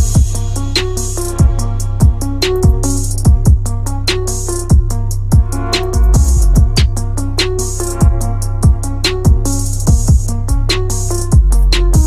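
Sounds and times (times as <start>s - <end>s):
hip-hop beat with synth melody: 0.0s - 12.0s.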